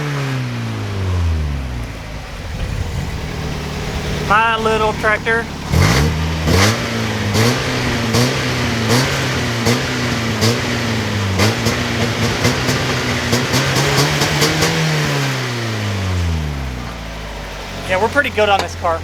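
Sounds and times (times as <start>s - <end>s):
car engine heard from cabin: 0.0s - 19.0s.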